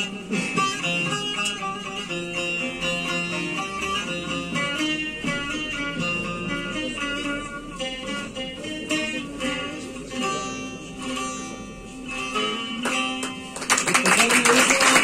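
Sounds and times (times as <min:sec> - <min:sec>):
plucked long-necked lute melody: 0:00.0 - 0:14.0
hard lute strums: 0:00.0 - 0:15.0.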